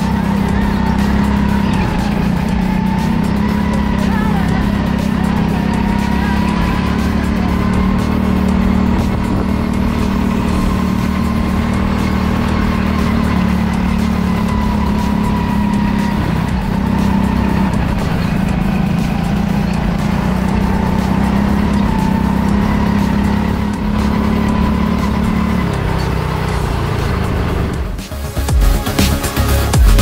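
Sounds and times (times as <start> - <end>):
go-kart motor drone: 0.0 - 30.0.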